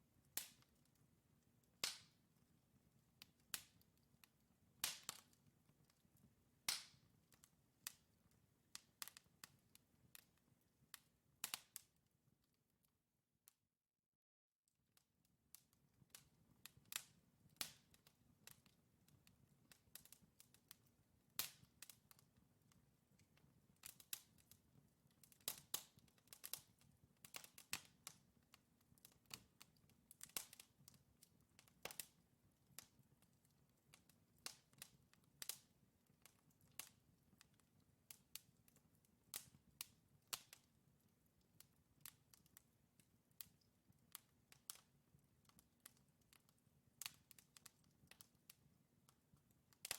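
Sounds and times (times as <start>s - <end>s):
logs crackling and popping: 0.3s - 1.1s, 1.7s - 2.2s, 3.2s - 11.9s, 15.8s - 49.9s.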